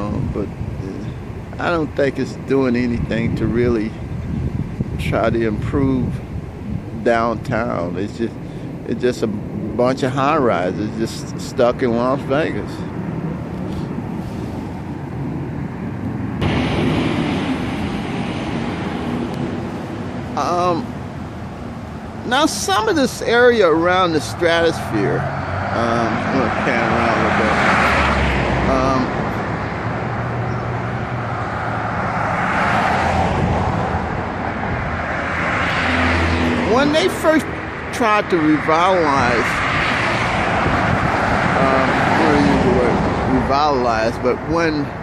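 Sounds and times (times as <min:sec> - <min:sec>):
low vehicle rumble: 0:00.0 - 0:45.0
rushing traffic noise: 0:00.0 - 0:45.0.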